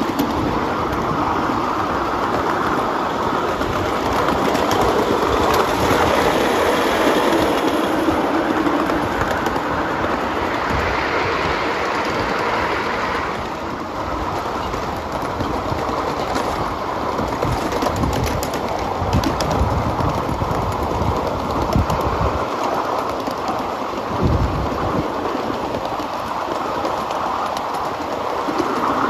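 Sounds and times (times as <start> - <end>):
wheel clicks and thumps: 0.0 - 1.2, 1.9 - 11.0, 14.2 - 29.0
miniature steam train running: 0.0 - 29.0.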